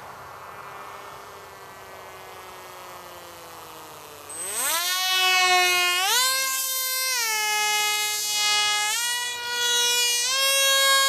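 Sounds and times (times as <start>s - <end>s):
model plane motor whining: 0.8s - 11.0s.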